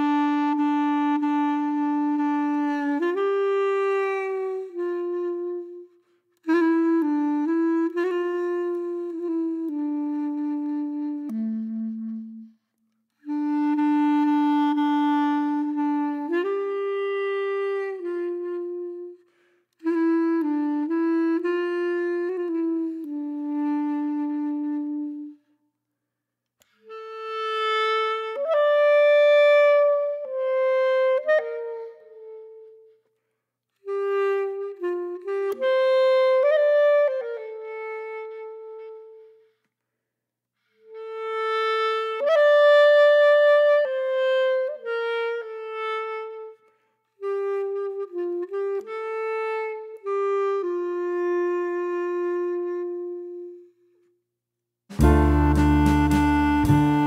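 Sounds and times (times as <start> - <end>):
slow wind instrument melody: 0.0 - 25.6, 26.6 - 33.2, 33.8 - 39.7, 40.6 - 54.1, 54.9 - 57.0.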